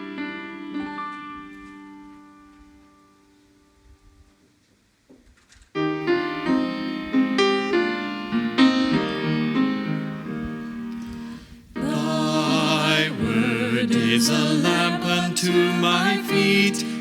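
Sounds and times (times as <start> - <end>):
piano sustained chords: 0.0 - 3.3, 5.9 - 17.0.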